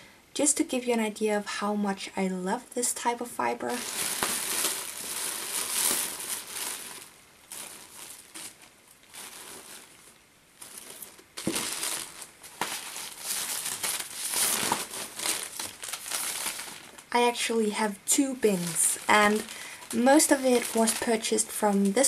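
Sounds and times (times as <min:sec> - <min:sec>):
plastic bags crinkling: 0:03.7 - 0:22.0.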